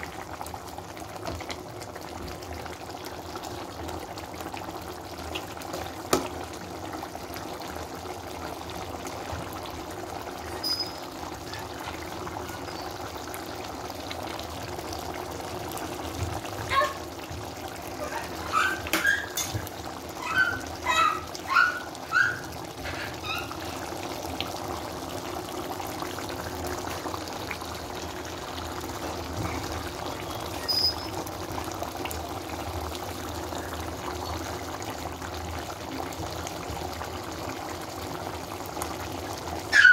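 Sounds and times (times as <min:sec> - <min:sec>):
curry bubbling in a pot: 0:00.0 - 0:39.9.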